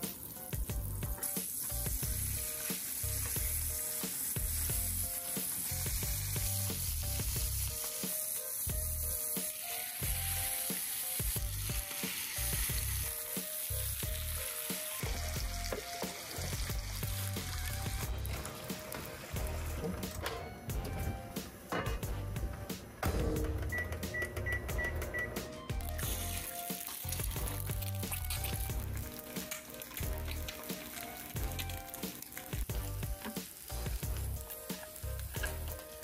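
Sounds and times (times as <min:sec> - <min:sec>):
beef sizzling on a griddle: 0:00.0 - 0:19.8, 0:25.8 - 0:36.0.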